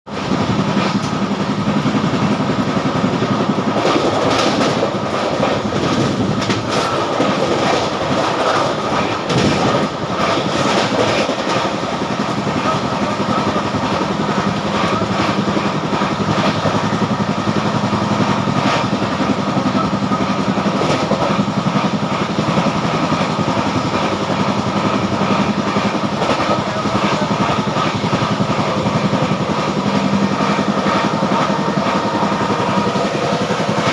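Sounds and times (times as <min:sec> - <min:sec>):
train coach rumbling: 0:00.1 - 0:33.9.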